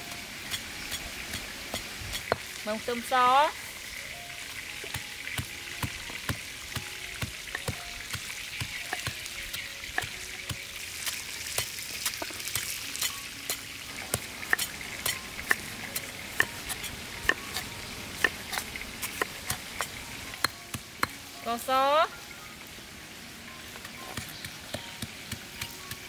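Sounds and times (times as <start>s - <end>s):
steady sizzle-like hiss: 0.0s - 26.0s.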